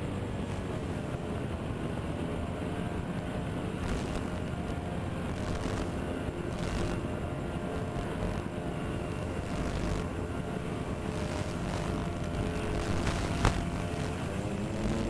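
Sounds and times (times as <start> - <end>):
electric motors and propellers: 0.0 - 15.0.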